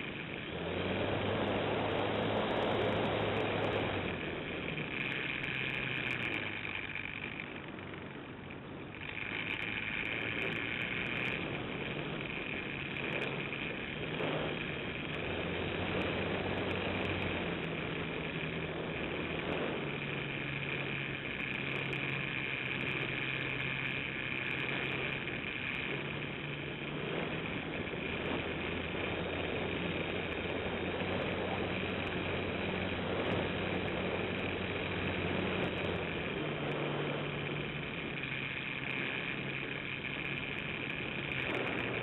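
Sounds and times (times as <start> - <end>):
model airplane motor and propeller: 0.0 - 42.0.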